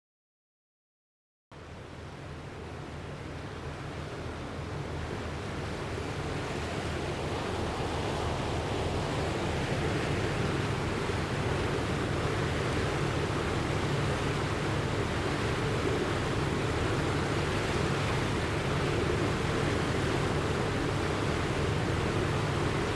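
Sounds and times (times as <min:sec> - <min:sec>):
rushing floodwater: 0:01.6 - 0:22.9.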